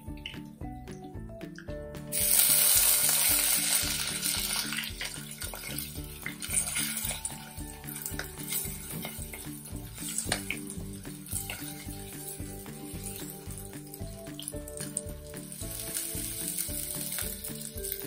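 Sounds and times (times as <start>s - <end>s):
background music: 0.0s - 18.0s
paste sizzling in hot oil: 2.1s - 18.0s.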